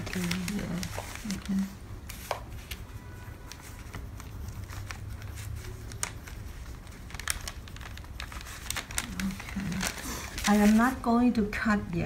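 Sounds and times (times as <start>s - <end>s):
paper rustling: 0.0s - 11.4s.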